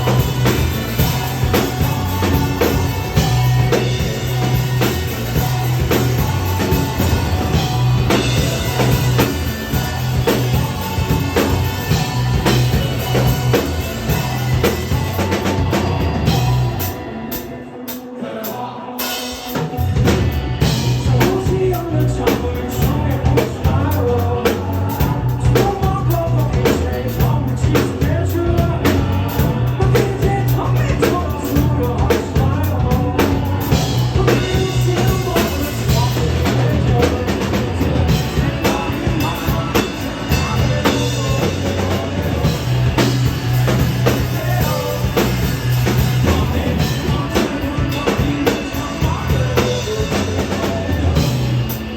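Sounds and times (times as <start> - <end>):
rock band playing live: 0.0 - 51.9.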